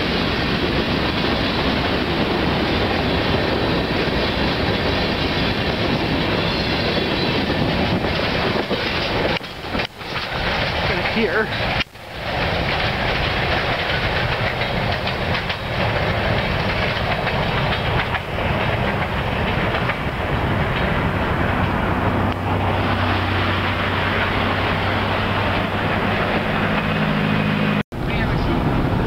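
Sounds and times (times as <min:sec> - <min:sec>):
freight train wheels rumbling: 0:00.0 - 0:29.0
wheels clacking over rail joints: 0:00.0 - 0:29.0.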